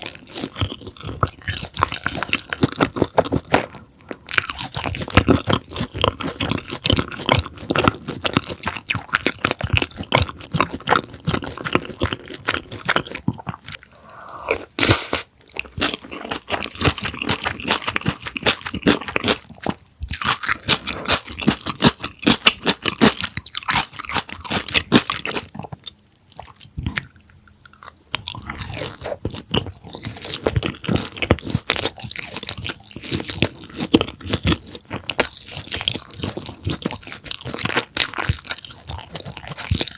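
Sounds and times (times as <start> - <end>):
crunchy breading being chewed: 0.0 - 14.8, 15.4 - 39.9.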